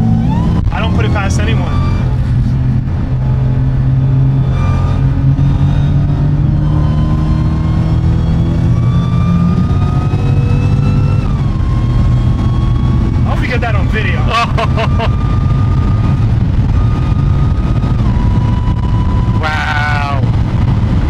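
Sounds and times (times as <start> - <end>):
car engine under load: 0.0 - 19.4.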